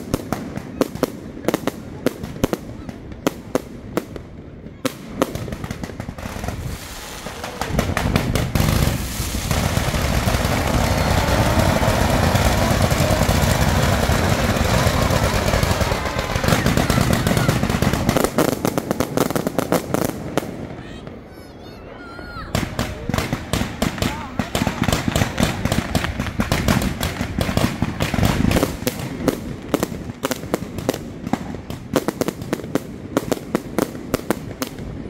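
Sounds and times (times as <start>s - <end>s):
fireworks bangs and bursts: 0.0s - 21.5s, 22.5s - 35.0s.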